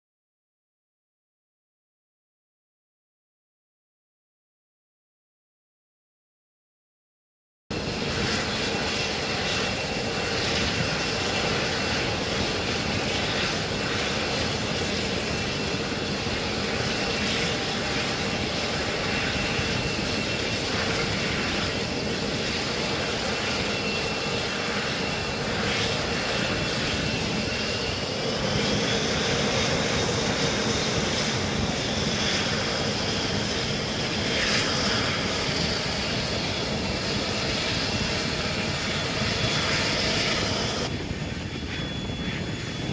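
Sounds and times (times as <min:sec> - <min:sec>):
engine and wind rush: 0:07.7 - 0:42.9
jet engine whine: 0:07.7 - 0:42.9.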